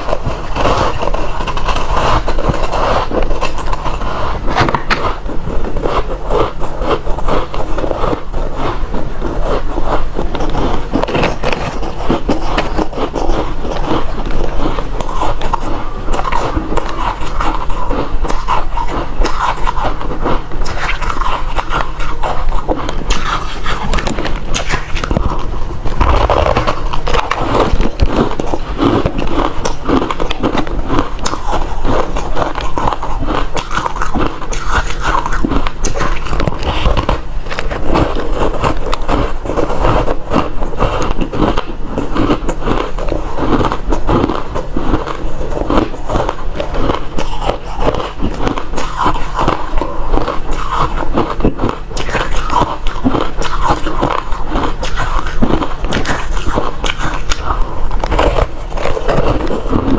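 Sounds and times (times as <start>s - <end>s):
chewing crushed ice: 0.0s - 59.9s.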